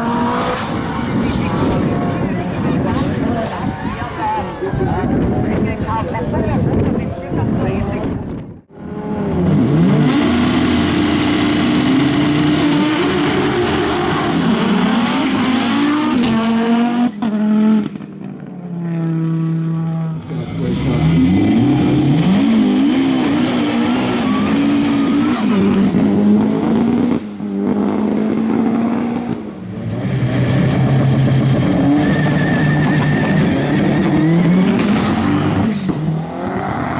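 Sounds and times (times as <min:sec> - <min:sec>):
race car engines revving: 0:00.0 - 0:05.7, 0:08.7 - 0:36.9.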